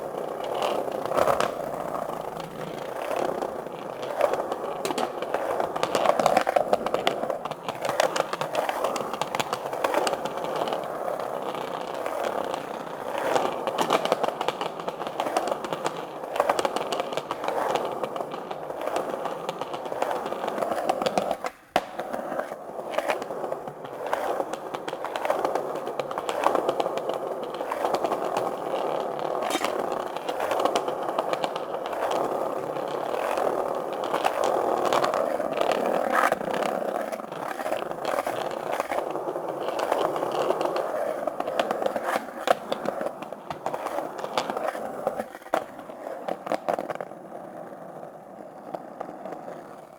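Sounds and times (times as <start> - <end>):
skate wheels rolling on concrete: 0.0 - 49.9.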